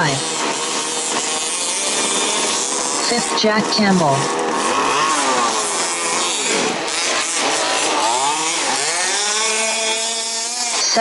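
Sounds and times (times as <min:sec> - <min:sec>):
rc buggy engines revving: 0:00.0 - 0:11.0.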